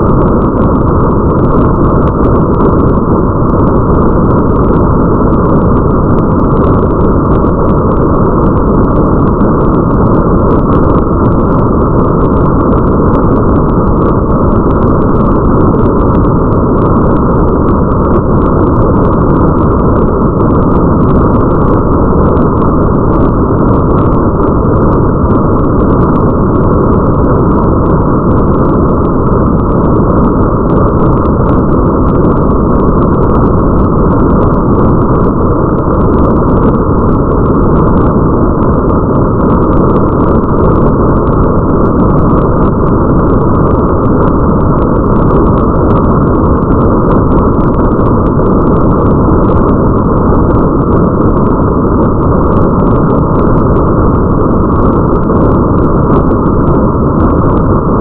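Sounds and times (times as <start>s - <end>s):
faint rain patter ticks: 0.0s - 57.9s
muffled rumble of rain: 0.0s - 58.0s.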